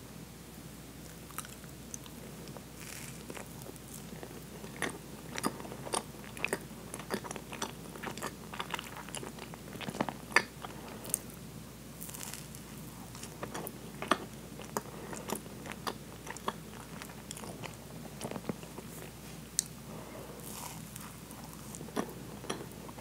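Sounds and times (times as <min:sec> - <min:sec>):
person chewing sponge cake: 0:01.0 - 0:11.4, 0:12.0 - 0:23.0.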